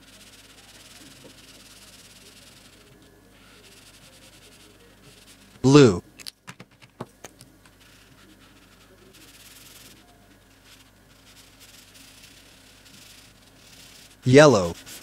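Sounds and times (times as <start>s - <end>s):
marker scratching on paper: 0.0s - 5.6s, 7.7s - 15.0s.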